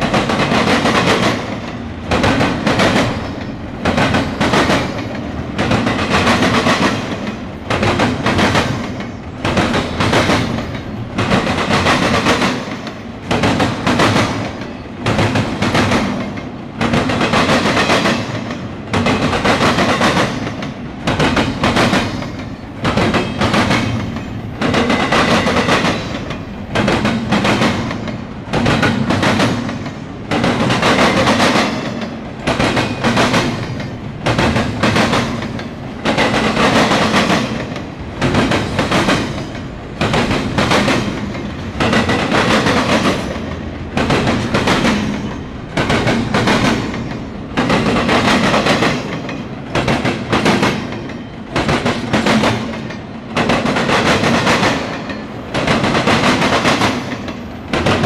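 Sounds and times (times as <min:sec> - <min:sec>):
train rolling rumble: 0:00.0 - 0:58.0
train wheels clattering: 0:00.0 - 0:58.0.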